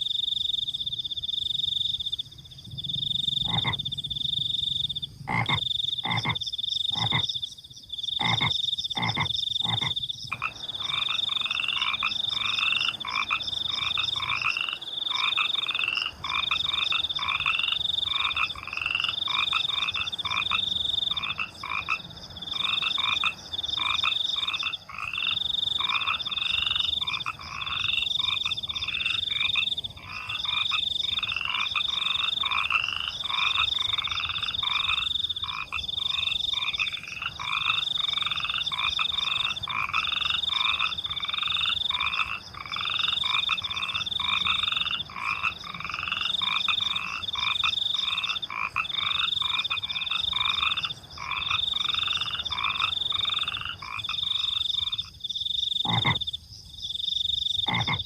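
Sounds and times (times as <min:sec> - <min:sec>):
crickets trilling: 0:00.0 - 0:58.0
frogs croaking: 0:00.0 - 0:58.0.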